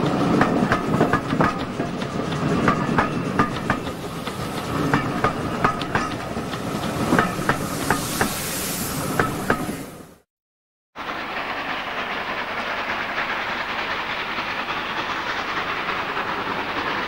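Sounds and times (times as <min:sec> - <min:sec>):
train coaches rumbling past: 0:00.0 - 0:10.2, 0:11.0 - 0:17.0
steam hissing: 0:00.0 - 0:10.3, 0:11.0 - 0:17.0.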